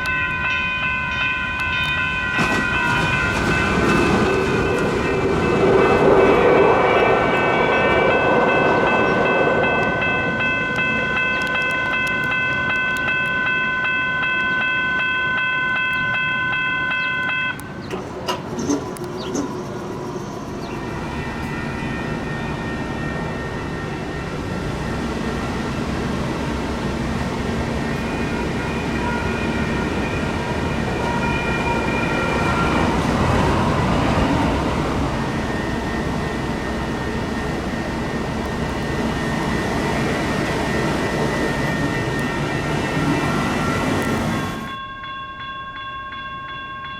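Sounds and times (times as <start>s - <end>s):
light rail train running: 0.0s - 46.9s.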